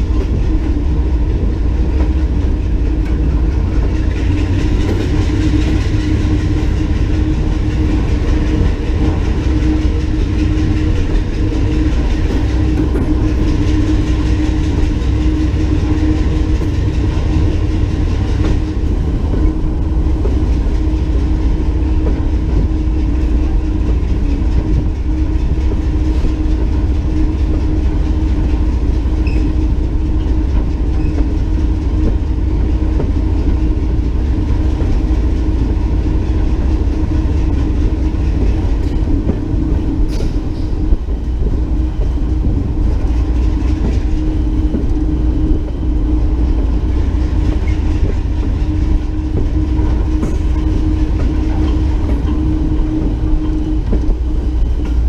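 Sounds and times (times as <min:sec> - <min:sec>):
locomotive rumble and hum: 0:00.0 - 0:55.0
wheels clicking over rails: 0:00.0 - 0:55.0.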